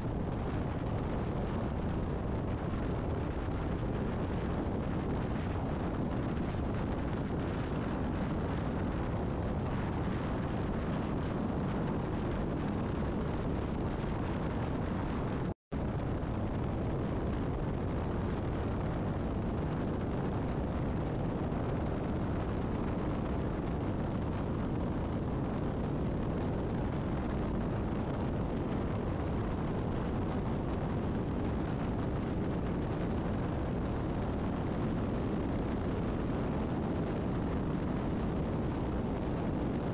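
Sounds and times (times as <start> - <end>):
wind and road rumble of vehicle: 0.0 - 39.9.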